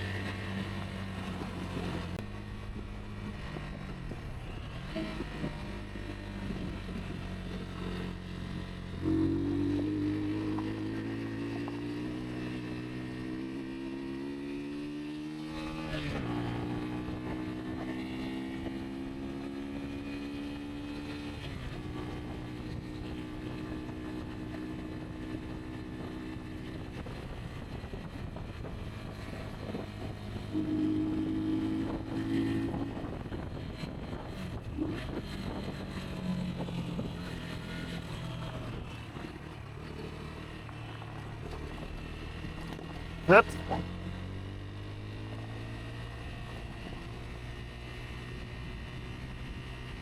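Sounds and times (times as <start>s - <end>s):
motorcycle engine running: 0.0s - 13.7s, 14.4s - 50.0s.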